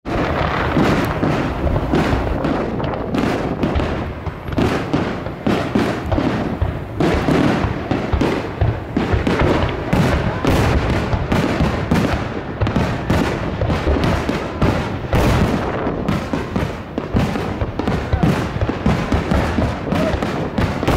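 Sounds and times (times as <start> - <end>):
fireworks launching and bursting: 0.0 - 20.9.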